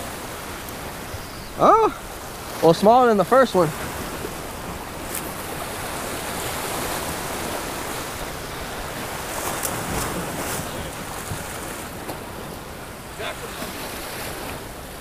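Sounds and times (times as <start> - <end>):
sea waves washing against rocks: 0.0 - 15.0.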